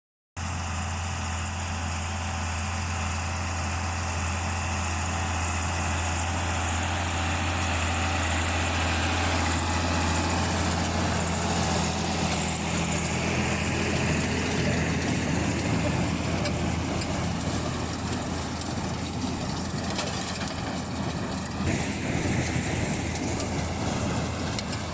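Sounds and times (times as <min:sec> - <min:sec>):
tractor and baler running: 0:00.4 - 0:24.9.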